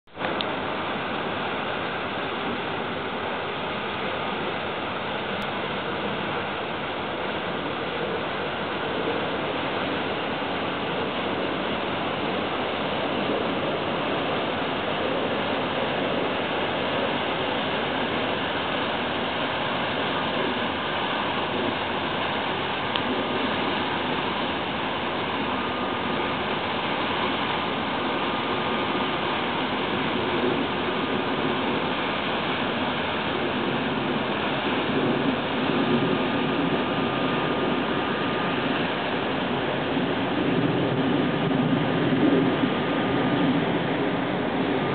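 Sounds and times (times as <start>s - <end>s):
ship machinery and bow wave rushing: 0.1s - 44.9s
faint whining tones: 0.2s - 44.9s.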